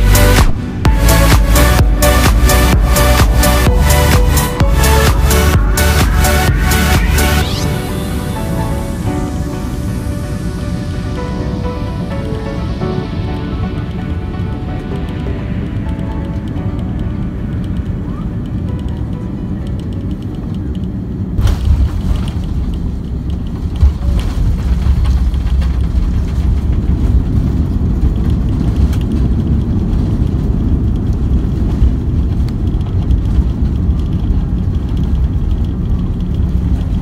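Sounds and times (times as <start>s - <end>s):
jet rumbling down runway: 0.0s - 37.0s.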